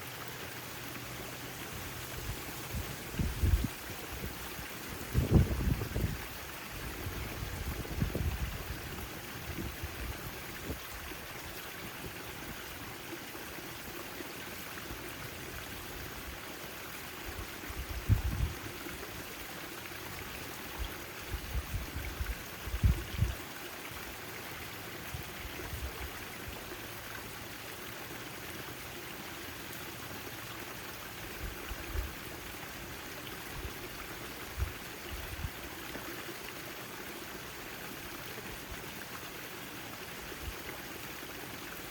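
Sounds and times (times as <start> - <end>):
fountain water splashing: 0.0 - 41.9.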